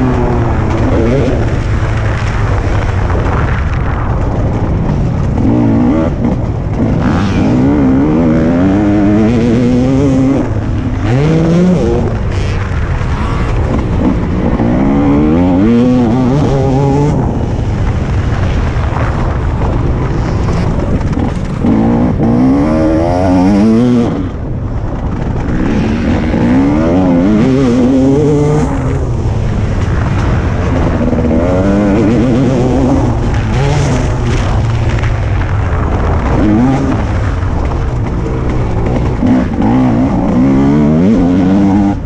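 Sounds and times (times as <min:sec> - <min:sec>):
motocross bike engine revving: 0:00.0 - 0:42.0.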